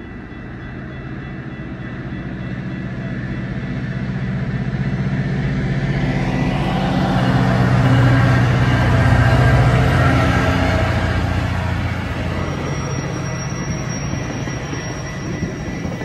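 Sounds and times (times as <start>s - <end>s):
diesel locomotive engine hum: 0.0s - 16.0s.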